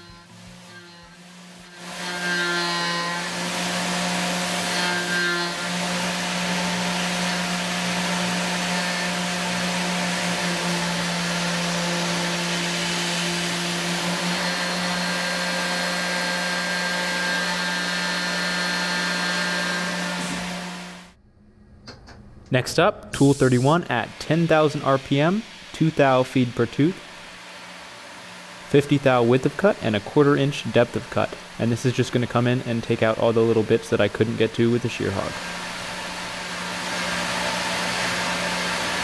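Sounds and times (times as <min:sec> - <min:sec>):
milling machine cutting metal: 0:00.0 - 0:21.0, 0:26.9 - 0:39.0.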